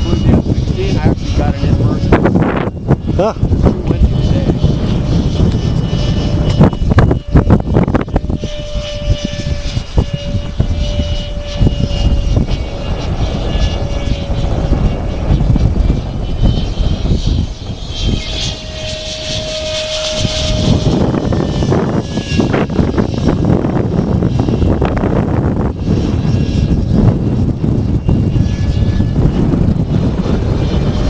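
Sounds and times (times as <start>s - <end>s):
model jet fan whining: 0.0s - 31.0s
wind buffeting microphone: 0.0s - 31.0s.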